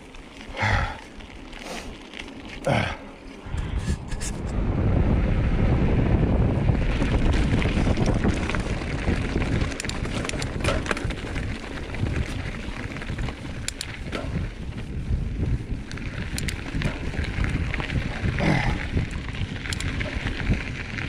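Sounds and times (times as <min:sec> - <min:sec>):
bike clicks and rattles: 0:00.0 - 0:04.6, 0:05.9 - 0:21.0
tyre noise: 0:00.0 - 0:04.6, 0:05.4 - 0:21.0
wind buffeting microphone: 0:02.7 - 0:21.0.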